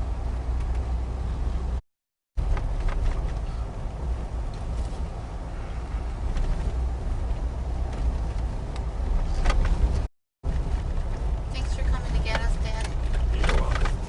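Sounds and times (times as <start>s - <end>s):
car driving rumble from inside: 0.0s - 1.8s, 2.4s - 14.0s.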